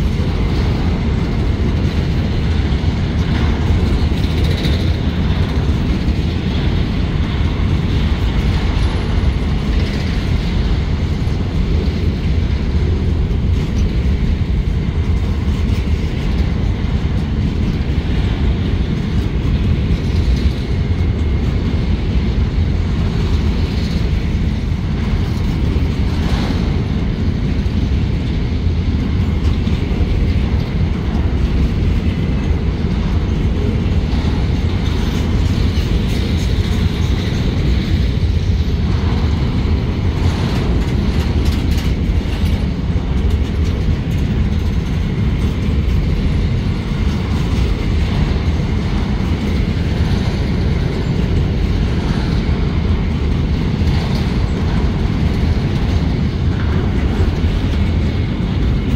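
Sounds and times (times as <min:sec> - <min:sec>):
freight train wheels rumbling: 0:00.0 - 0:58.9
wheels clacking over rail joints: 0:00.0 - 0:58.9.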